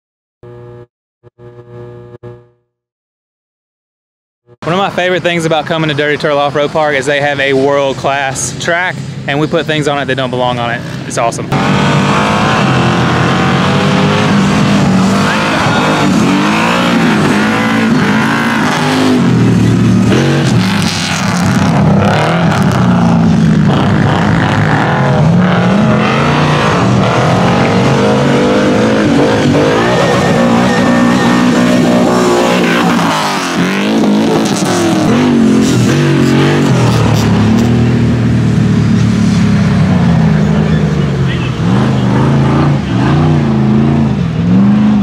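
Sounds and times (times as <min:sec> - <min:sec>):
buggy engines revving: 0:04.6 - 0:45.0.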